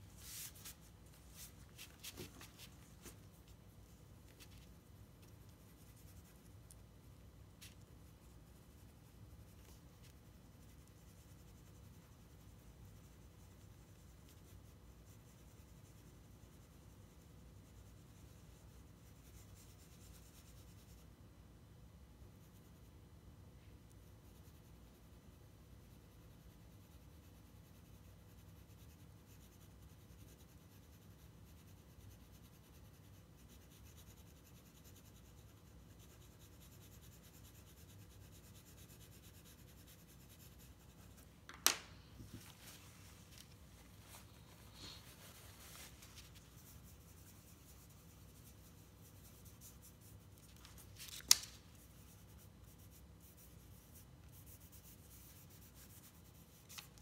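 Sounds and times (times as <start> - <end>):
pencil scratching on paper: 0.0 - 21.0, 25.8 - 41.3, 43.2 - 57.0.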